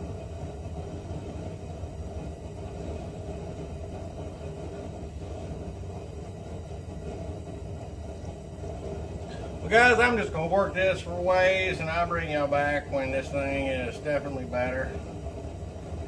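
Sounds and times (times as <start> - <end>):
blower motor rumbling: 0.0 - 16.0.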